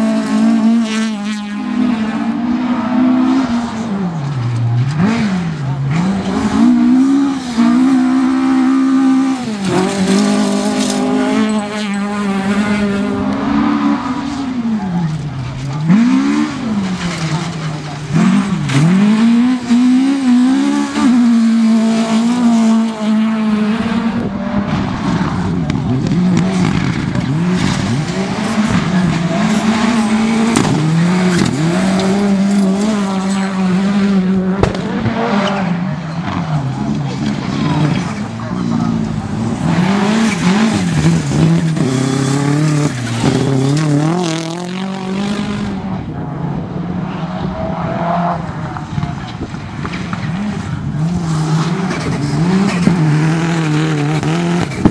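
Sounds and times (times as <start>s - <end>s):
rally car engine revving high: 0.0s - 54.9s.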